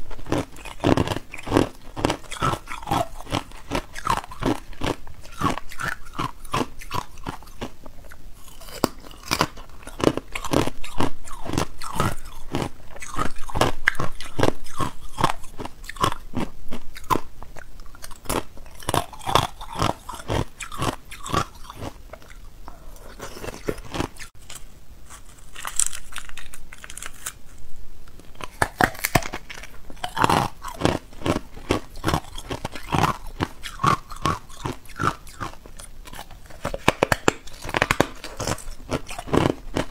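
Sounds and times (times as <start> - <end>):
ice being chewed: 0.0 - 27.4, 28.3 - 39.9.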